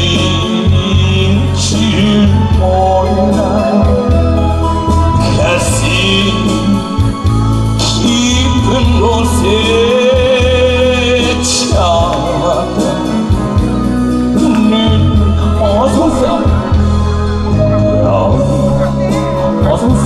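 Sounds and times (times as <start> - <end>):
backing music with heavy bass: 0.0 - 20.0
man singing: 0.0 - 20.0.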